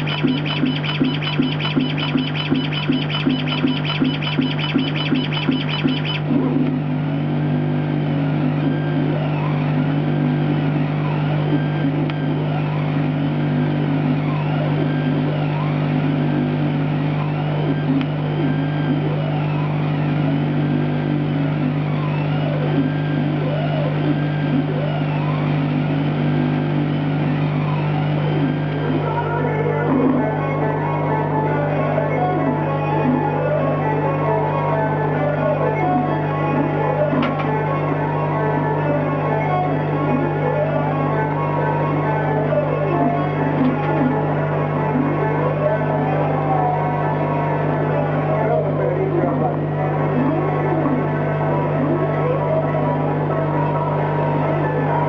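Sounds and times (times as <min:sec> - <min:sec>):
ambient electronic music: 0:00.0 - 0:07.3, 0:08.3 - 0:55.0.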